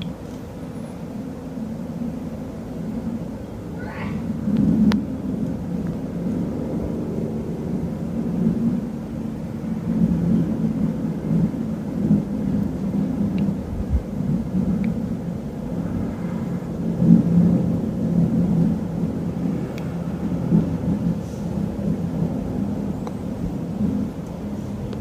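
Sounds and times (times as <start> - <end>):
helicopter rotor rumble: 0.0 - 25.0.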